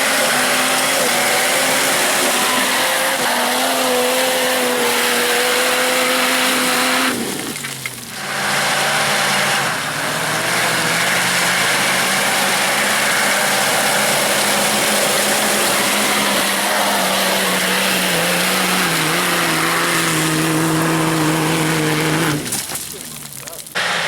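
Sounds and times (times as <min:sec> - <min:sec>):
off-road vehicle engine revving high: 0:00.0 - 0:22.8, 0:23.7 - 0:24.0.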